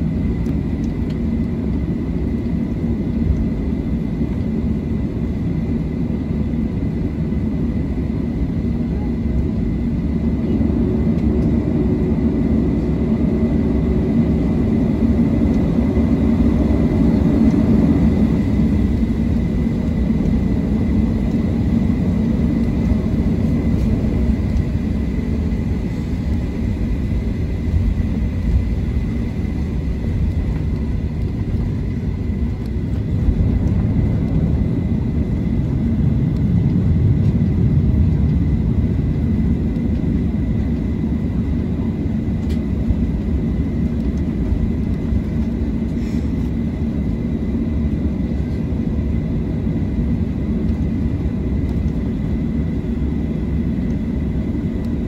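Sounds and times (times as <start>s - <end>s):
faint high engine whine: 0.0s - 55.0s
jet engine low rumble: 0.0s - 55.0s.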